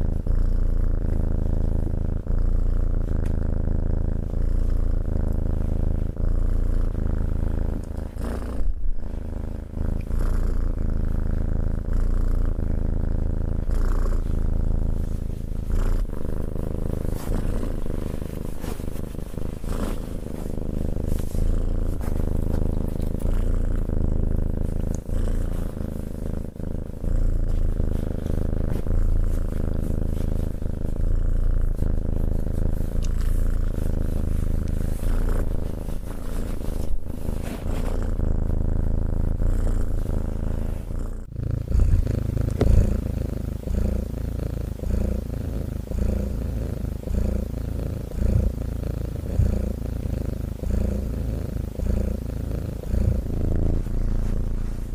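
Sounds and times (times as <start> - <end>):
cat purring: 0.0 - 54.9
faint brushing sounds: 0.0 - 54.9.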